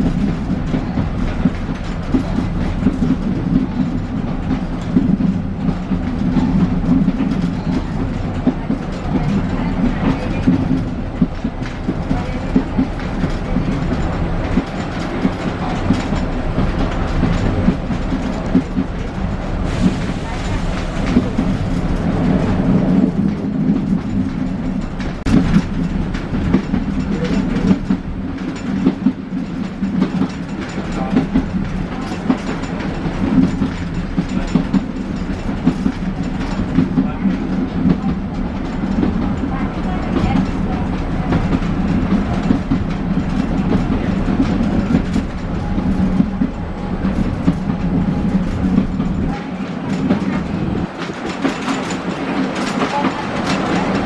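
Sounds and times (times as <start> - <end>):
diesel locomotive engine droning: 0.0 - 54.0
train coach rattling: 0.0 - 54.0
train wheels clacking: 0.0 - 54.0.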